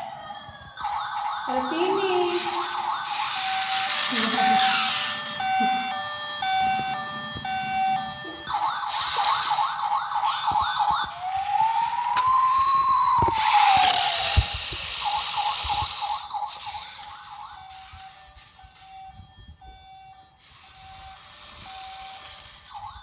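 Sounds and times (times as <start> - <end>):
toy electronic siren: 0.0 - 23.0.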